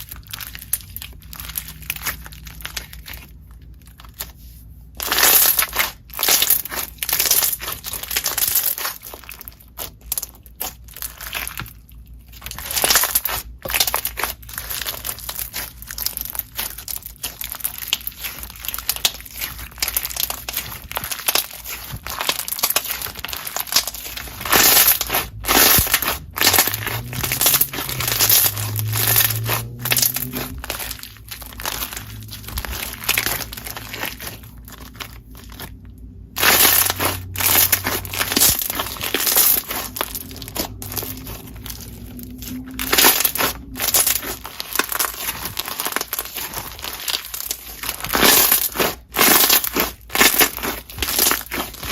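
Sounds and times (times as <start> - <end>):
slime crackling and popping: 0.0 - 51.9.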